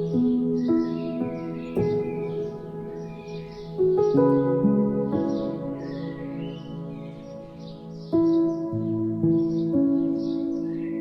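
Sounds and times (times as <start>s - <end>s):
calm ambient music: 0.0s - 11.0s
faint bird chirps: 0.0s - 11.0s.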